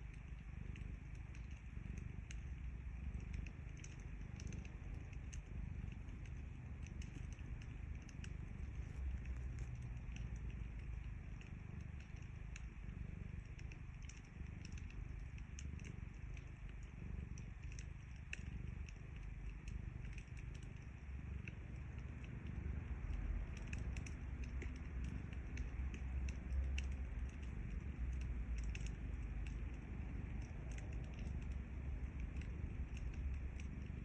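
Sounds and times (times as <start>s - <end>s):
cat purring: 0.0s - 34.0s
fire crackling: 0.0s - 34.0s.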